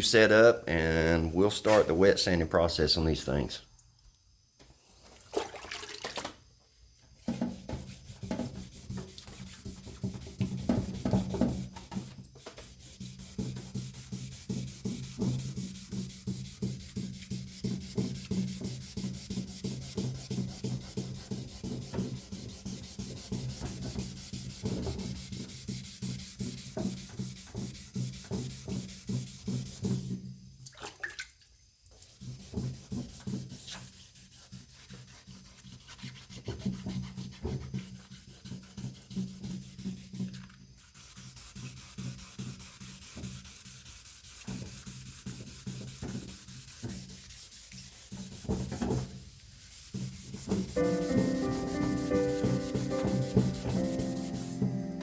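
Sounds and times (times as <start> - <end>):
wet sandpaper strokes on metal: 7.7 - 30.3, 32.0 - 54.9.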